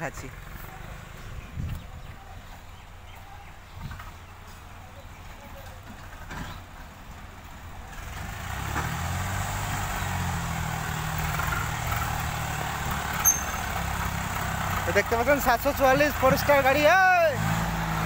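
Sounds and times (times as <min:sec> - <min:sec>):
diesel tractor engines running: 0:00.0 - 0:18.0.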